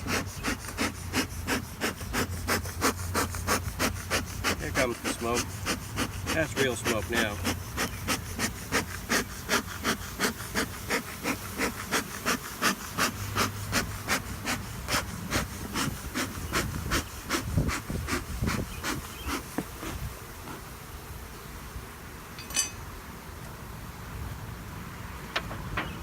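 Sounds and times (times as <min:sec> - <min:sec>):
bee smoker bellows hissing: 0:00.0 - 0:26.0.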